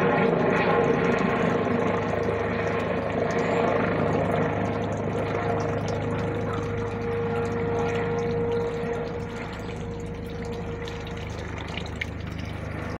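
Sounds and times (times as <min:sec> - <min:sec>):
helicopter rotor beat: 0:00.0 - 0:13.0
helicopter whine: 0:00.0 - 0:13.0.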